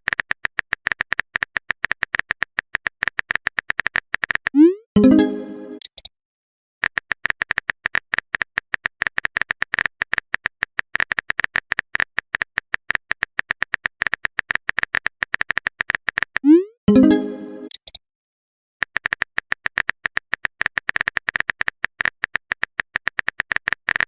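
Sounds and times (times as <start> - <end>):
phone keyboard typing clicks: 0.0 - 4.6, 5.8 - 6.1, 6.8 - 16.5, 18.8 - 24.0.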